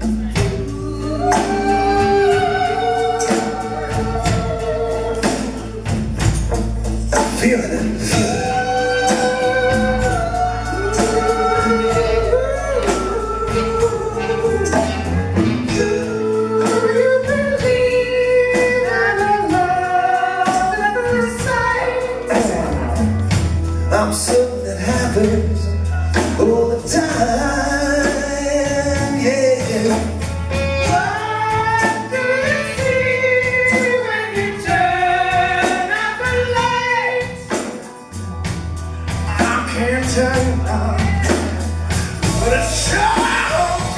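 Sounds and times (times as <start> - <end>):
people singing: 0.0 - 6.6, 7.2 - 23.2, 23.9 - 38.1, 39.3 - 43.9
live rock band playing: 0.0 - 43.9.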